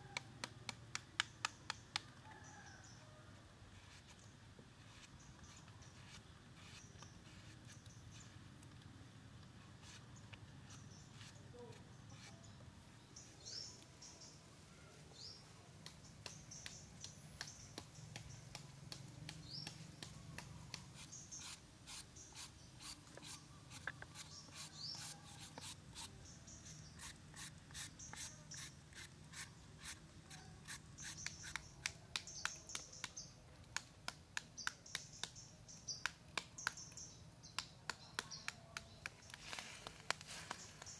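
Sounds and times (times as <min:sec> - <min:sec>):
small birds chirping: 0:03.8 - 0:40.9.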